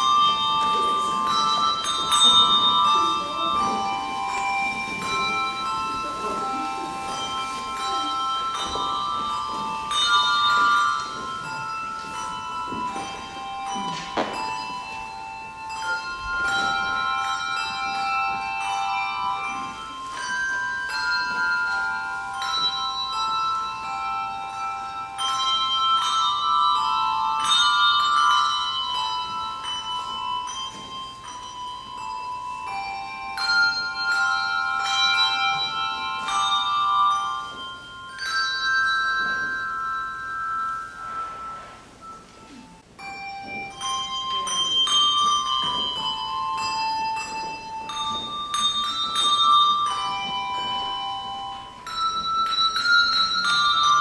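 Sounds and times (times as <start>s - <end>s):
handbell choir playing chords: 0.0s - 54.0s.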